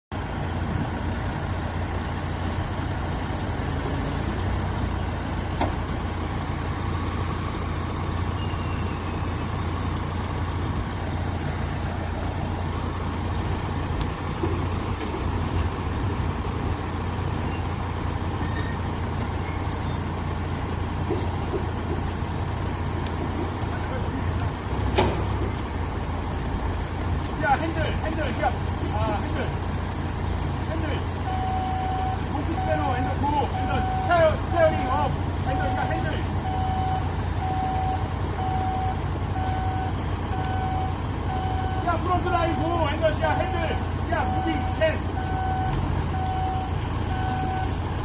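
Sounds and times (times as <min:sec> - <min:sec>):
forklift engines droning: 0:00.1 - 0:48.0.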